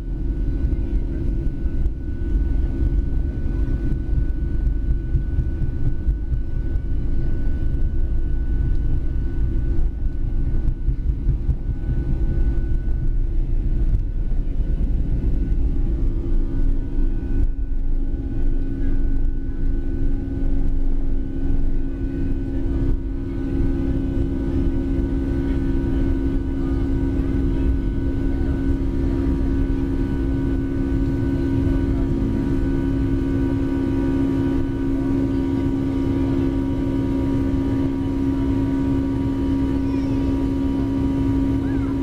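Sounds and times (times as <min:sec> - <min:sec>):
jet engine drone in cabin: 0:00.0 - 0:42.0.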